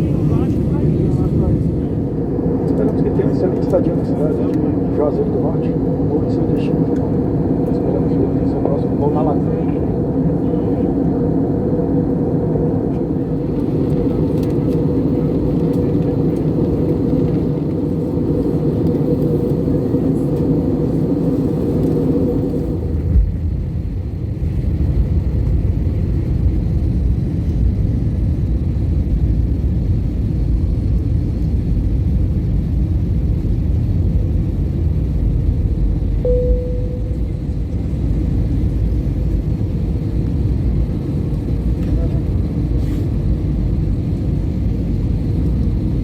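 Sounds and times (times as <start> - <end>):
airliner cabin engine hum: 0.0 - 46.0.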